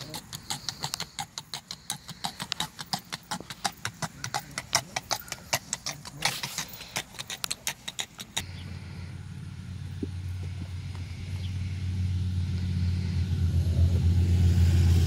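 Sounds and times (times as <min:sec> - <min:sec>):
hoofbeats on paved road: 0:00.0 - 0:13.2.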